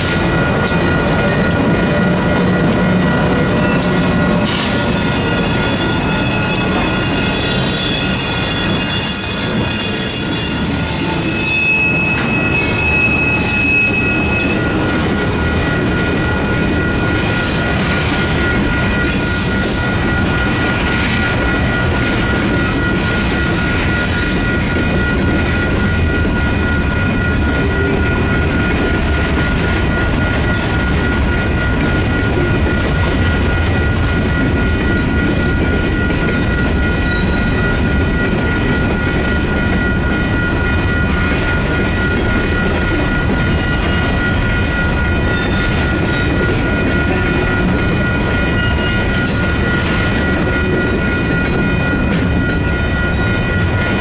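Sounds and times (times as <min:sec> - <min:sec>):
crossing warning bell ringing: 0:00.0 - 0:54.0
train wheels rumbling on rails: 0:00.0 - 0:54.0
wheels squealing on rails: 0:00.0 - 0:54.0.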